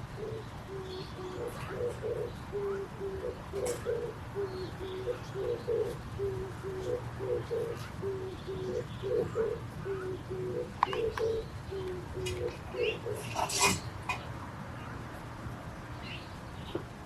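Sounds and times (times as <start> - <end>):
dove cooing: 0.0 - 14.2.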